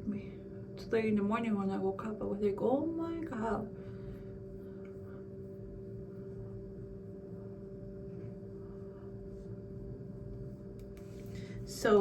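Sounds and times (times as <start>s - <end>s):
steady hum of held tones: 0.0s - 12.0s.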